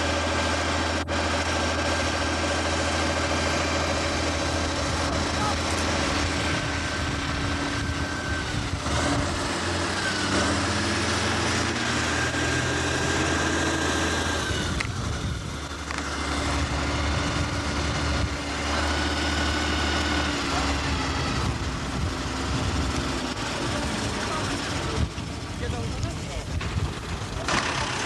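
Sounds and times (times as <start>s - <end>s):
fire engine driving past: 0.0s - 28.0s
tractor engine idling: 0.0s - 28.0s.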